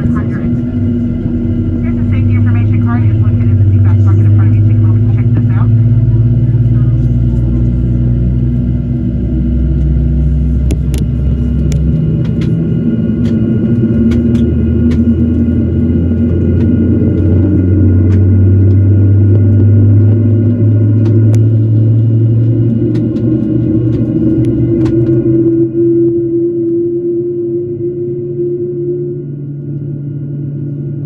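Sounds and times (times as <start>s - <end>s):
airplane cabin rumble and hum: 0.0s - 31.0s.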